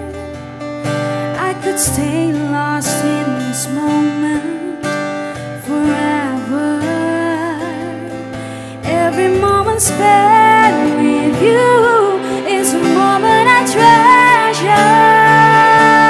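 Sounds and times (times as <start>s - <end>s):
slow song with guitar and singing: 0.0s - 16.0s.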